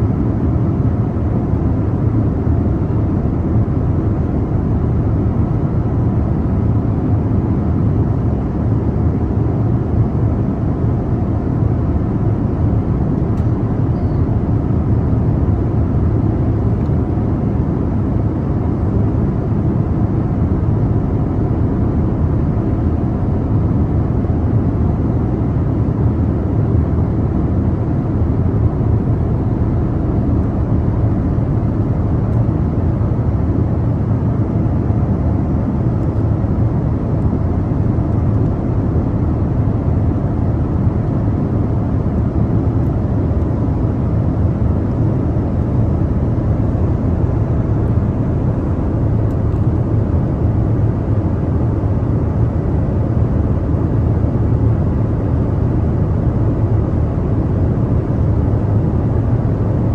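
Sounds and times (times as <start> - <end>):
airliner cabin rumble in flight: 0.0 - 59.9.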